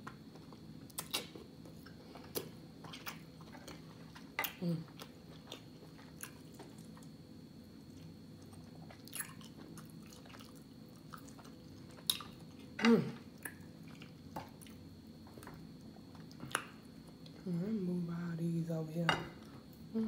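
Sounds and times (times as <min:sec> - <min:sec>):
quiet chewing and mouth noises: 0:00.1 - 0:17.5.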